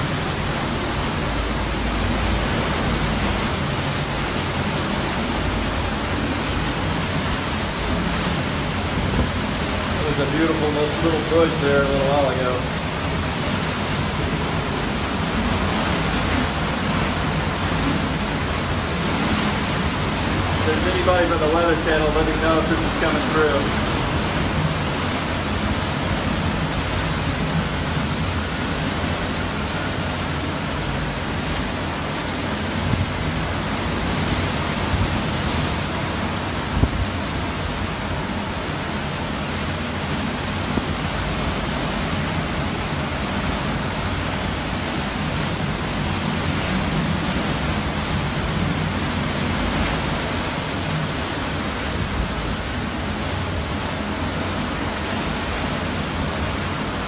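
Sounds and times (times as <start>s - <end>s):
strong wind and rain: 0.0s - 57.0s.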